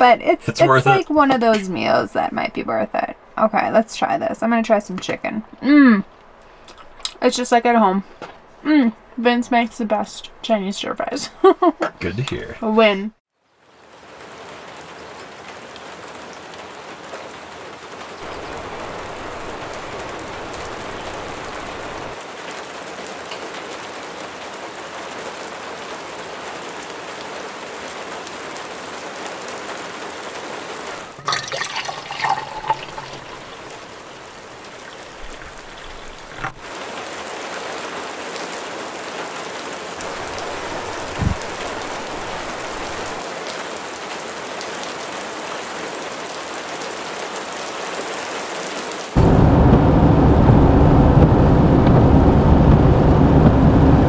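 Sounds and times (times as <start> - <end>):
heavy rain: 0.0 - 4.6, 13.4 - 54.0.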